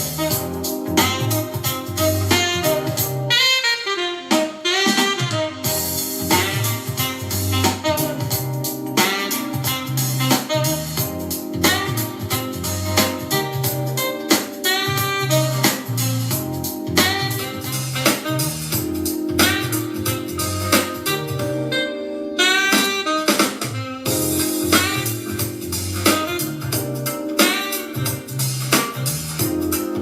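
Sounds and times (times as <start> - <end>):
jazz music through small speaker: 0.0 - 30.0.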